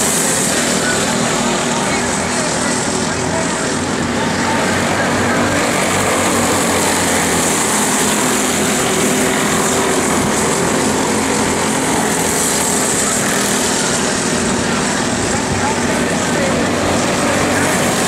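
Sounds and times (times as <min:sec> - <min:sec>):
go-kart engines droning: 0:00.0 - 0:18.0.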